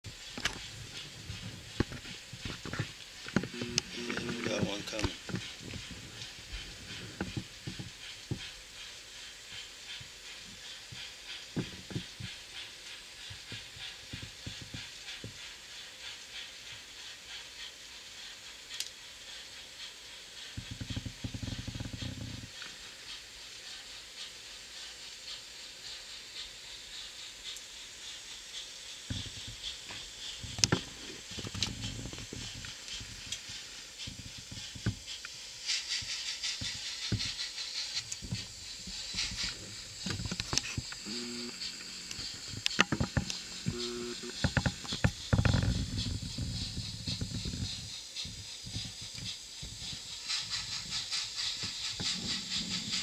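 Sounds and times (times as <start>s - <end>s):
rhythmic steam chuff: 0.0s - 53.0s.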